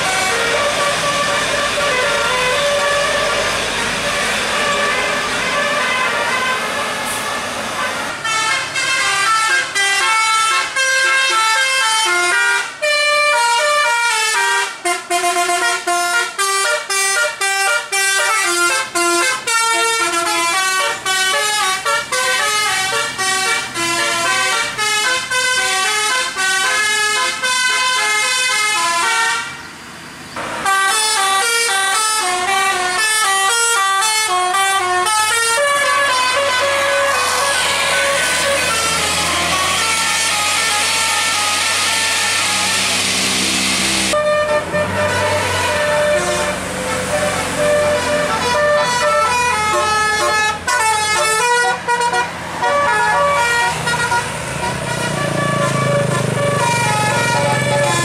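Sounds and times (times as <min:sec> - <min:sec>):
multi-tone bus horn tune: 0:00.0 - 0:29.8, 0:30.4 - 0:58.0.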